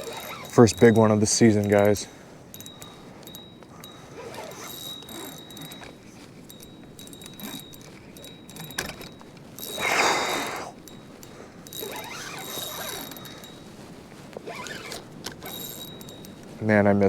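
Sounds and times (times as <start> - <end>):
fishing reel clicking and rattling: 0.0 - 13.6, 14.4 - 16.8.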